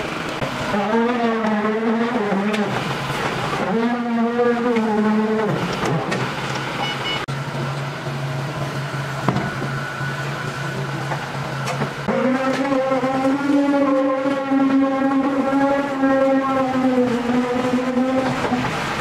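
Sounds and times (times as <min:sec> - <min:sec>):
forklift engine idling and revving: 0:00.0 - 0:19.0.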